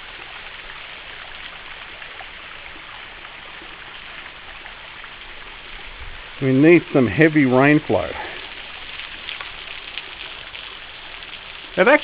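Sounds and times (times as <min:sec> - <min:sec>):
small waterfall splashing over rocks: 0:00.0 - 0:12.0.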